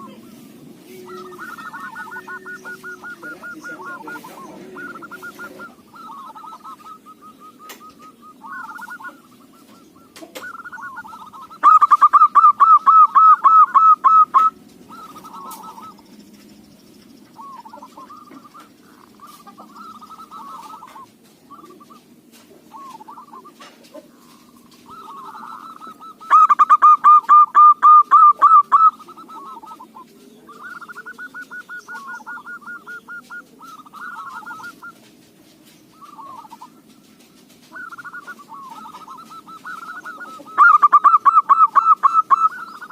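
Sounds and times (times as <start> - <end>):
dove cooing: 0.0 - 16.2, 17.2 - 42.9
rapid repeated bird notes: 0.0 - 42.9.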